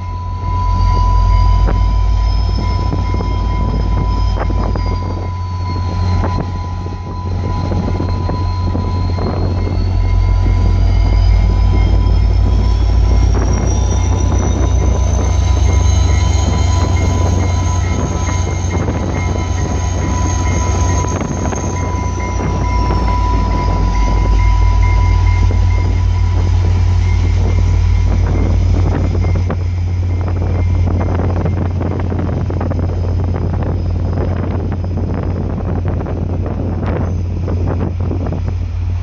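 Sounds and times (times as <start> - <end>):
diesel train rolling past: 0.0 - 39.0
high whine: 0.0 - 39.0
wind rumble on microphone: 0.0 - 39.0.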